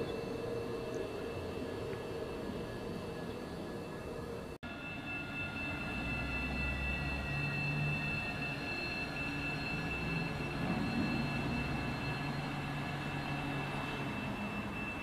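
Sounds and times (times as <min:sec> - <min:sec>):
electric tram halting: 0:00.0 - 0:15.0
high-pitched whine: 0:00.0 - 0:15.0.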